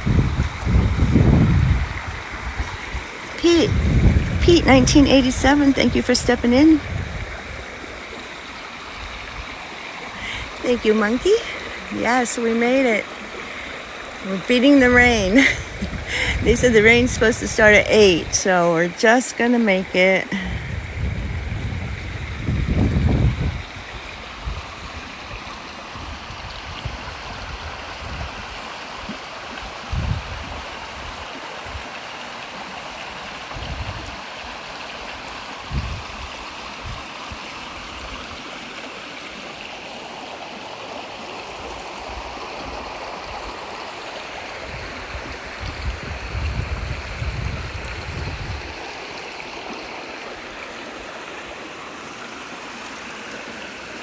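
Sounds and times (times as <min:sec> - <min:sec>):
brook water rushing: 0:00.0 - 0:54.0.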